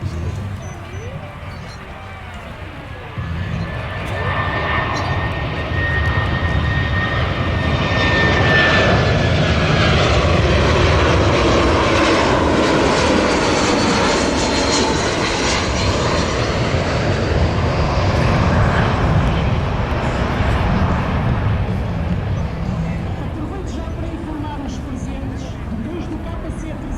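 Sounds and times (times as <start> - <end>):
transport plane engines: 0.0 - 26.9.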